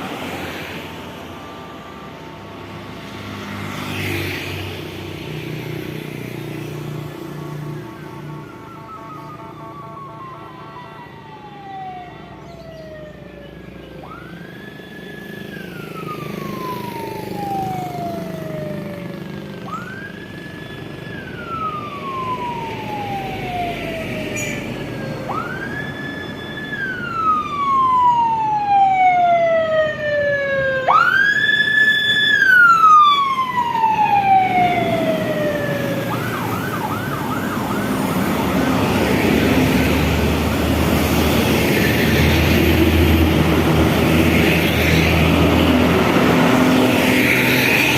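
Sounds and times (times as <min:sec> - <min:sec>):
traffic noise: 0:00.0 - 0:47.9
siren wailing and yelping: 0:05.9 - 0:47.9.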